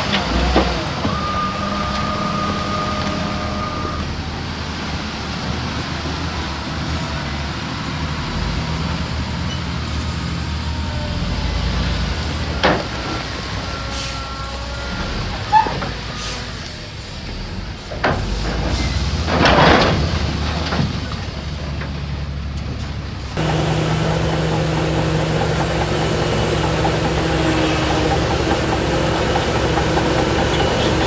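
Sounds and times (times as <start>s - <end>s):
heavy machinery diesel engines: 0.0s - 31.0s.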